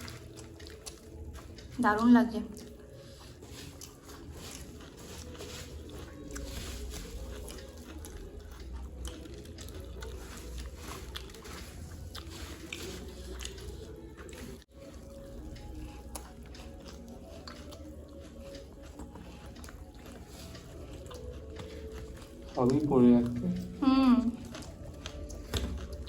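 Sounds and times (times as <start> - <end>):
people chewing crunchy food: 0.0 - 26.0
wet mouth sounds: 0.0 - 26.0.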